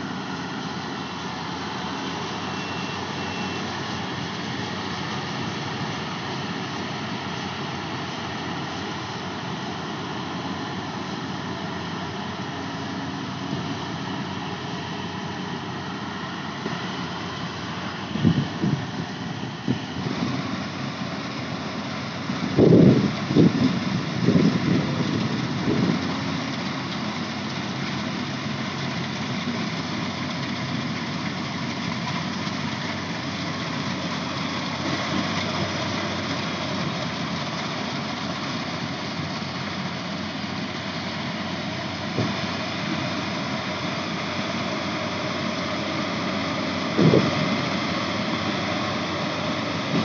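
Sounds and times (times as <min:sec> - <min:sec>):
combine harvester engine droning: 0:00.0 - 0:50.0.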